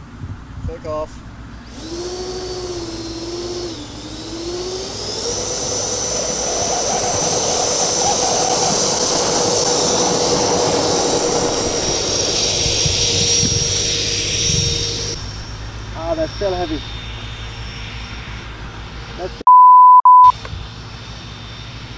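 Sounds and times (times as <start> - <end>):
electric ducted fans whining: 0.0 - 19.4.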